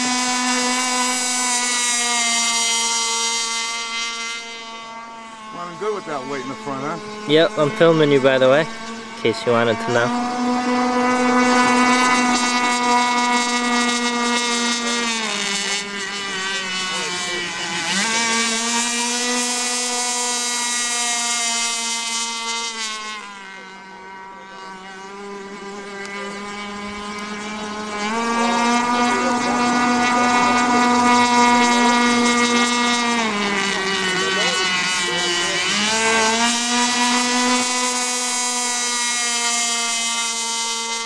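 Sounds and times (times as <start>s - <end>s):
boat motor high whine: 0.0s - 41.0s.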